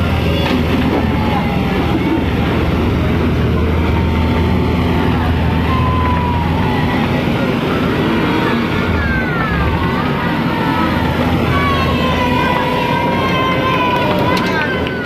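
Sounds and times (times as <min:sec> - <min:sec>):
excavator diesel engine drone: 0:00.0 - 0:15.0.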